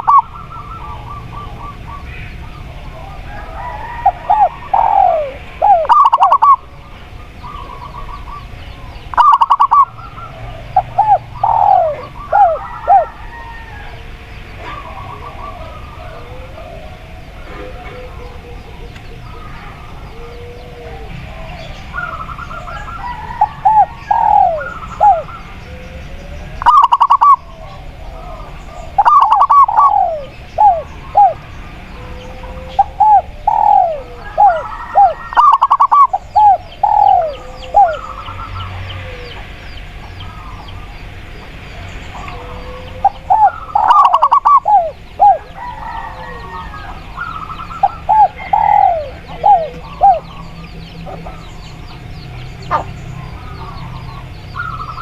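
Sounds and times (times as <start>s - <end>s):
doves cooing: 0.0s - 55.0s
faint bird chirping: 0.0s - 55.0s.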